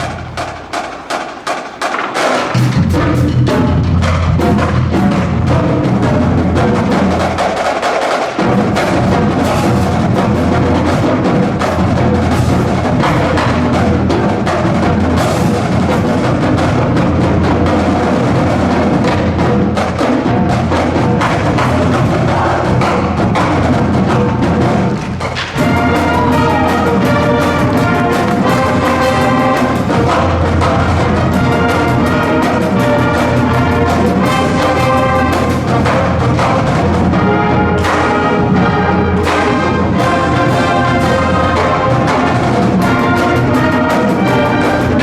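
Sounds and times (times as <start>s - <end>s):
drums and percussion: 0.0s - 45.0s
marching band playing rock song: 0.0s - 45.0s.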